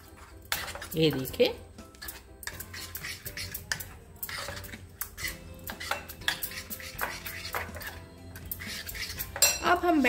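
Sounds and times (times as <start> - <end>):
metal spoon scraping a mixing bowl: 0.0 - 10.0.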